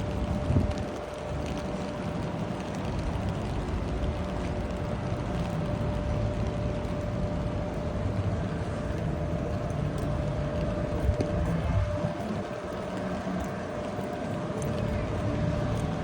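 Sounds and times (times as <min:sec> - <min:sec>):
steady hum: 0:00.0 - 0:16.0
traffic passing on wet road: 0:00.0 - 0:16.0.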